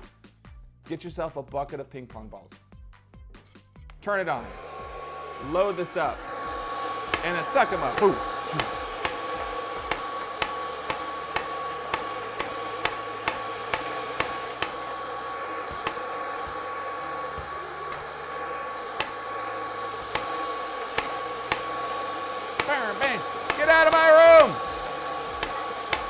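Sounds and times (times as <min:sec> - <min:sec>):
hair dryer whining: 0:04.0 - 0:26.0.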